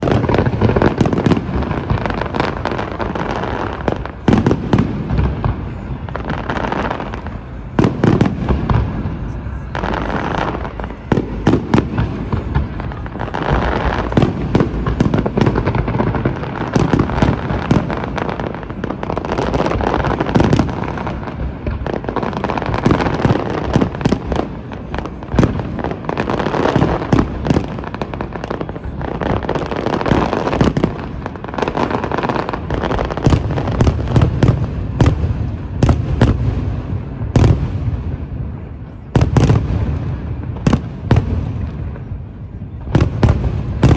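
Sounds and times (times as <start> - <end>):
fireworks bangs and crackling: 0.0 - 43.9.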